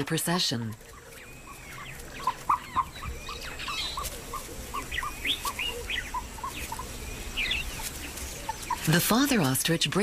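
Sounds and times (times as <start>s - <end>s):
chicks peeping: 0.8s - 9.5s.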